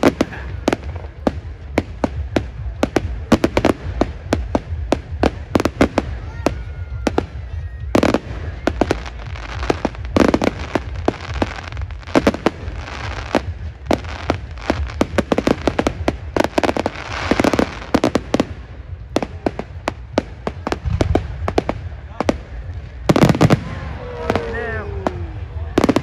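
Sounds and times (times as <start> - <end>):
fireworks bursting with sharp bangs: 0.0 - 26.0
fireworks crackling and hissing: 0.0 - 26.0.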